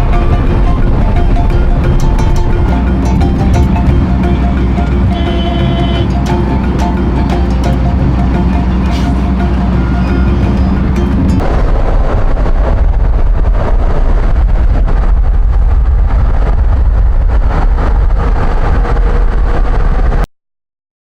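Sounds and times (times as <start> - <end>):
vehicle road and engine noise: 0.0 - 20.3.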